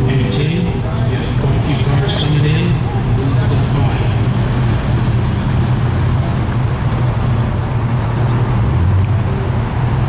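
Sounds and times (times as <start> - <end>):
car engines idling: 0.0 - 10.0.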